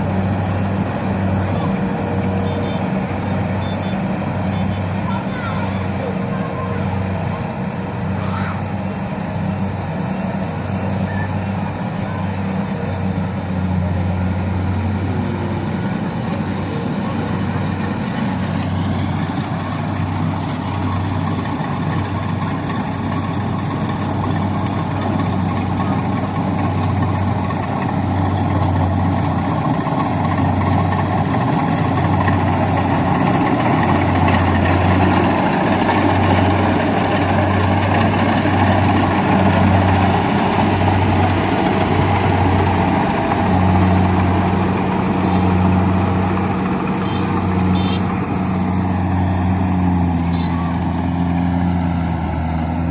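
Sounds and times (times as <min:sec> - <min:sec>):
diesel engine humming: 0:00.0 - 0:52.9
machinery noise: 0:00.0 - 0:52.9.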